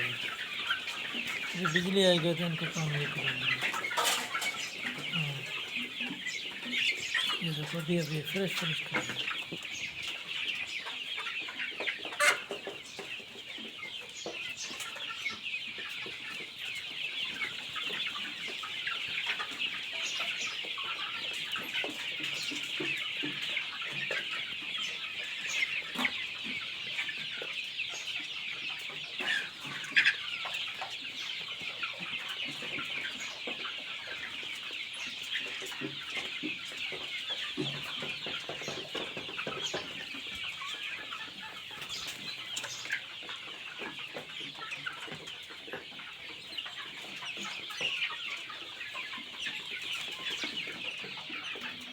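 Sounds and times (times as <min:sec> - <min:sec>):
chickens cheeping and clucking: 0:00.0 - 0:51.9.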